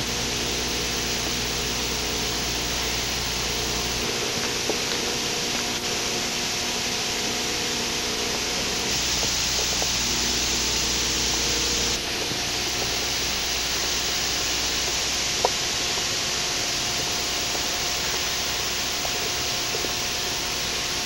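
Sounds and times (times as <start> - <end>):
industrial hum and hiss: 0.0 - 21.0.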